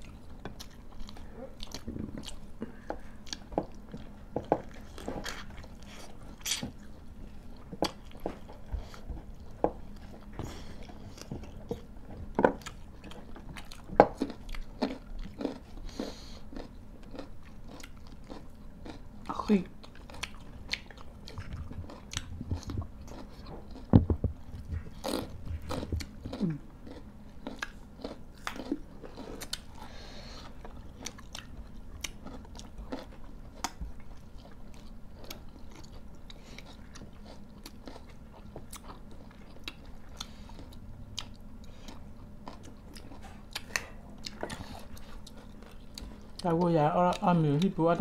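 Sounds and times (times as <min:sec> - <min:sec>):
people chewing and crunching food: 0:00.0 - 0:48.0.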